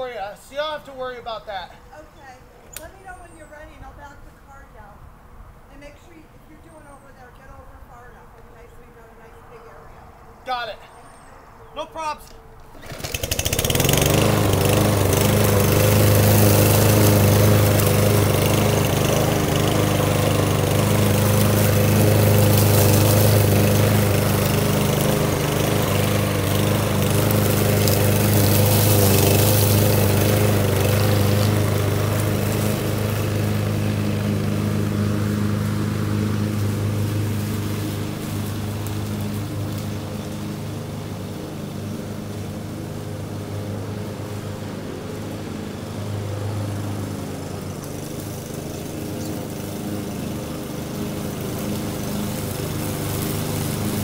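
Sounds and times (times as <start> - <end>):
lawn mower running: 0.0 - 8.4, 11.8 - 54.0.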